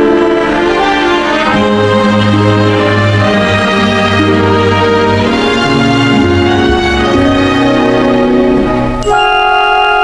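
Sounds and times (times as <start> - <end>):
bowed strings: 0.0 - 9.1.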